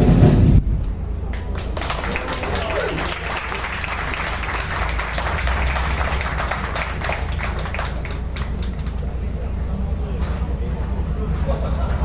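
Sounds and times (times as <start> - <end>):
steady low rumble: 0.0 - 12.0
crowd applauding: 1.3 - 12.0.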